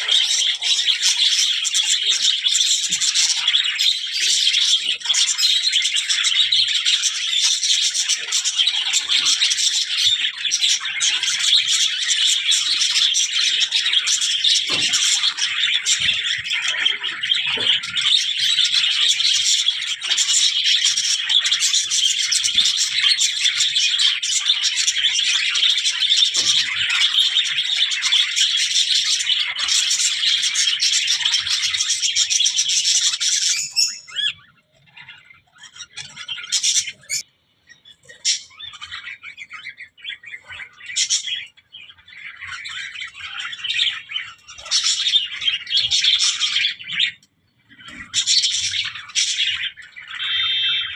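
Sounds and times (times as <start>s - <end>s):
budgerigars chattering: 0.0s - 50.9s.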